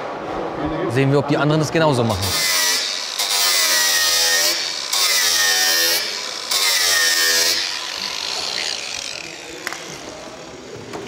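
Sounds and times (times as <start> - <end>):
cordless power cutting tool: 2.1 - 11.0.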